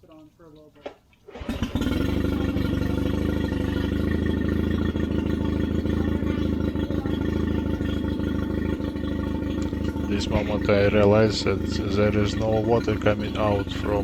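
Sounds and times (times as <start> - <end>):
outboard motor running: 1.2 - 14.0.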